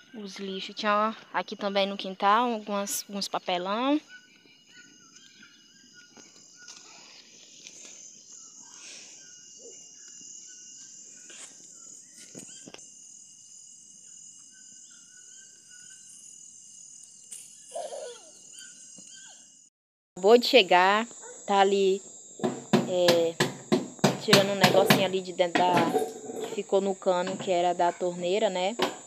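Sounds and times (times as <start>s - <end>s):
insect chirps: 0.0s - 29.0s
insects trilling: 0.0s - 29.0s.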